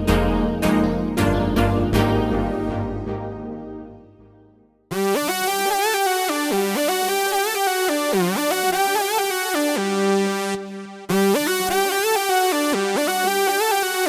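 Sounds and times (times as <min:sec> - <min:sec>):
synthesizer melodic pattern: 0:00.0 - 0:14.0.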